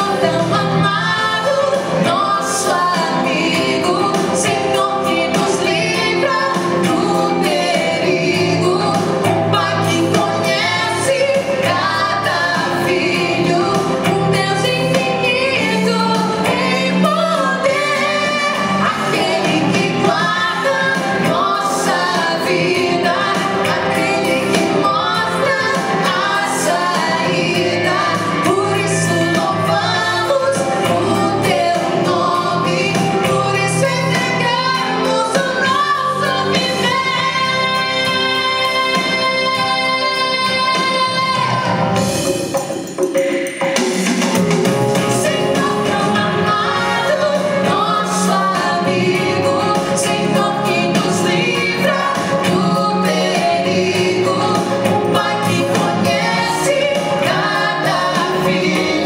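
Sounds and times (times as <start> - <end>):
choir singing praise song: 0.0 - 59.0
instrumental accompaniment: 0.0 - 59.0.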